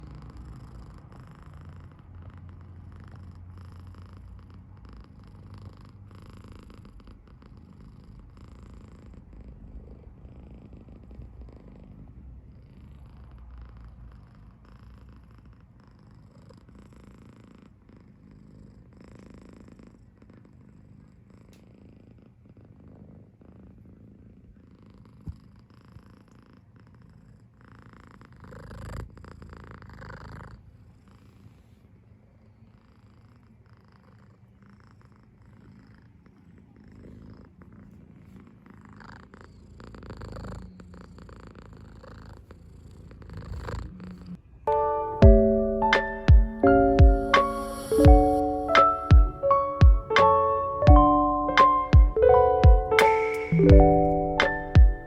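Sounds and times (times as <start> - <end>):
kitten purring: 0.0 - 55.0.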